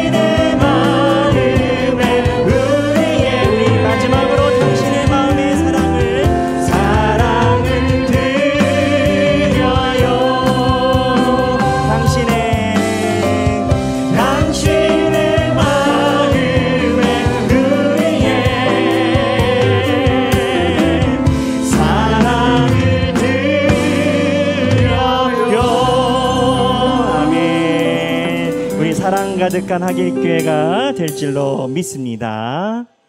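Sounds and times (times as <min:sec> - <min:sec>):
group singing praise song: 0:00.0 - 0:29.3
instrumental accompaniment: 0:00.0 - 0:33.0.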